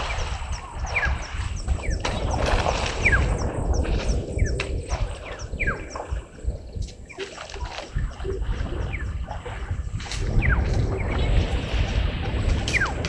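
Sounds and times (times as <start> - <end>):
birds calling: 0.0 - 13.0
low rumble: 0.0 - 13.0.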